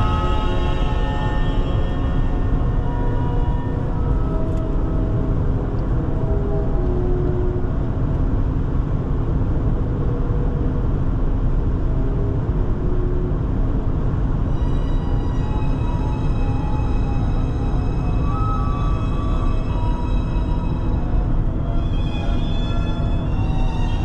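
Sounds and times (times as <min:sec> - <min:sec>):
faint orchestral music: 0:00.0 - 0:08.3, 0:12.1 - 0:24.0
car road and wind noise: 0:00.0 - 0:24.0.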